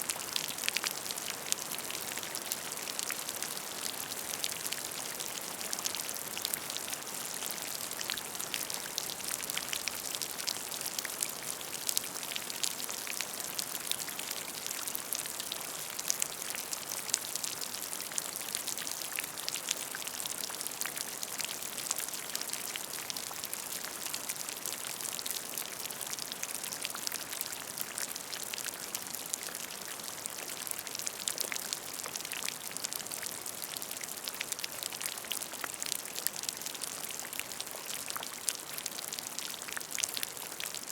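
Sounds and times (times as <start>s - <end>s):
rain falling on a puddle: 0.0s - 40.9s.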